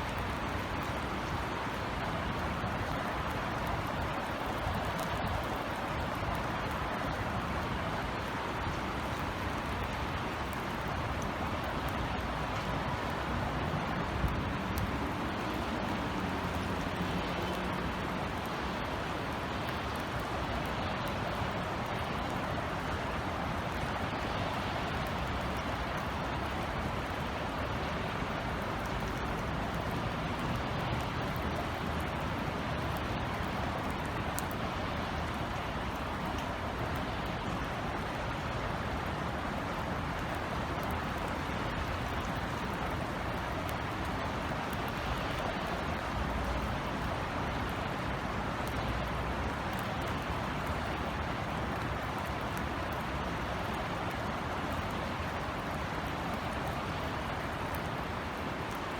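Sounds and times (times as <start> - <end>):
city traffic rumble: 0.0 - 58.9
rain drop ticks: 0.0 - 58.9.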